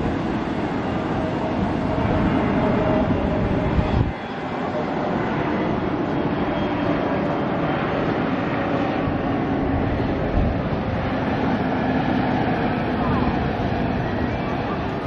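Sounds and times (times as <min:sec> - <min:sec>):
jet airliner flying low: 0:00.0 - 0:15.0
jet engine whine: 0:00.0 - 0:15.0.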